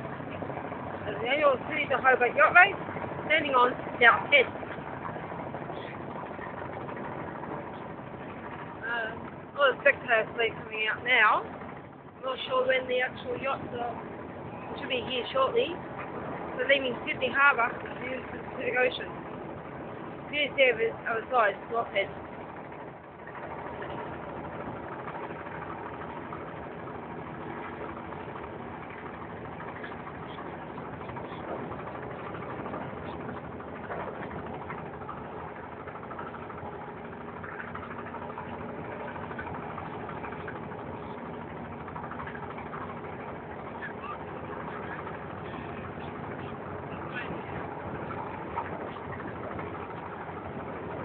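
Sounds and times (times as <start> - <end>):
drone of boat engines: 0.0 - 51.0.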